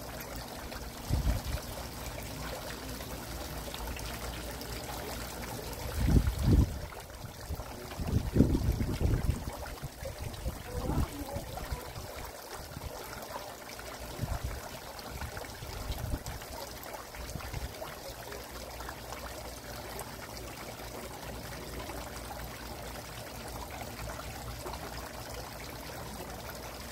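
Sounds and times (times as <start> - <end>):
fountain water trickling and splashing: 0.0 - 26.9.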